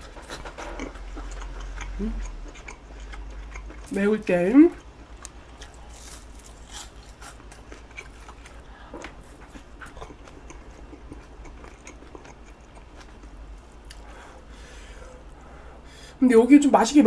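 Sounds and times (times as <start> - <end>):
person chewing food: 0.0 - 4.0, 4.8 - 15.6.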